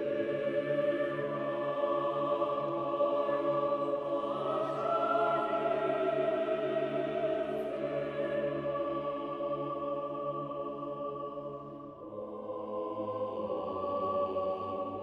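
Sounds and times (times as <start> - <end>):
slow choral music: 0.0 - 15.0.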